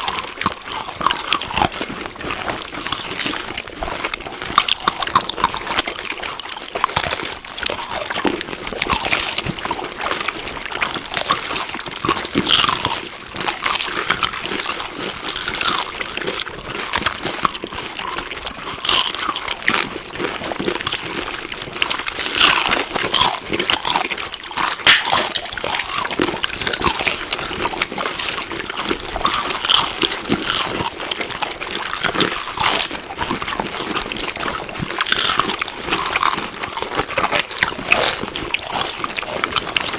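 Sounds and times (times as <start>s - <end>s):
crunchy chewing: 0.0s - 39.9s
wet mouth sounds: 0.0s - 39.9s.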